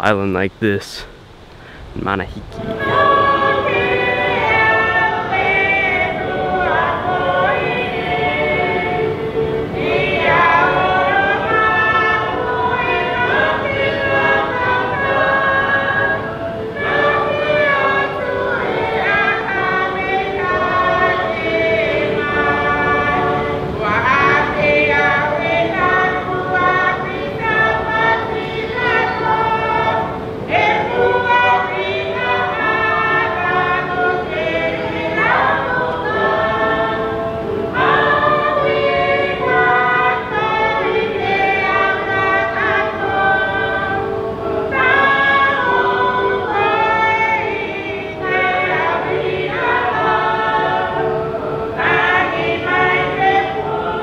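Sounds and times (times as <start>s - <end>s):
choir singing: 2.0s - 54.0s.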